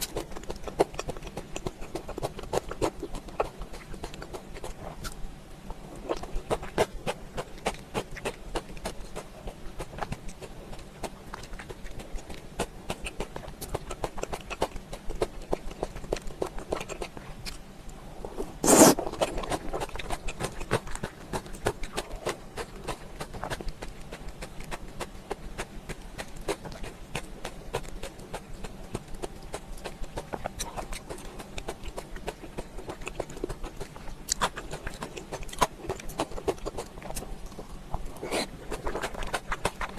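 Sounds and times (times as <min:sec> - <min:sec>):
person chewing and lip-smacking: 0:00.0 - 0:17.6, 0:18.6 - 0:39.9.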